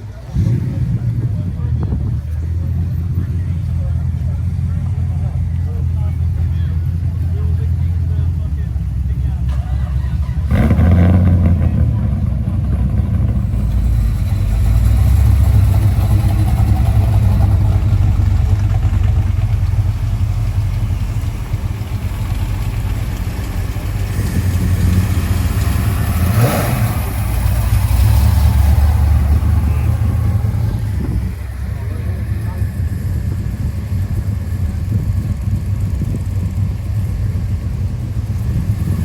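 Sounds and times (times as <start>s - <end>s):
car engine rumbling: 0.0s - 39.0s.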